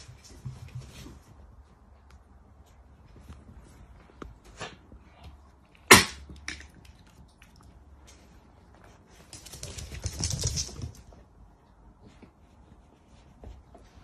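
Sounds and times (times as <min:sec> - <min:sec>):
dogs scuffling and scrambling: 0:00.0 - 0:05.3, 0:08.0 - 0:14.0.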